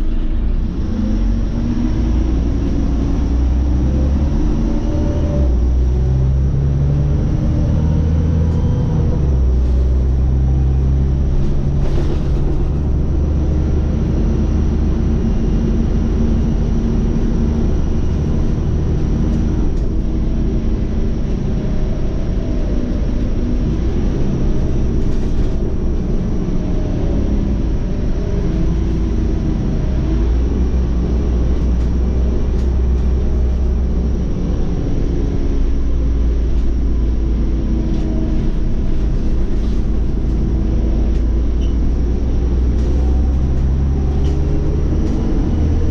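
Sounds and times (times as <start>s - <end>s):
bus engine drone: 0.0s - 45.9s
road rumble: 0.0s - 45.9s.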